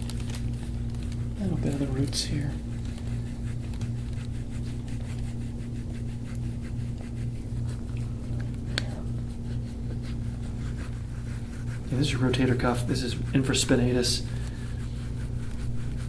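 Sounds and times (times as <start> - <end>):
steady low hum: 0.0 - 16.0
tool scraping over skin: 0.6 - 16.0.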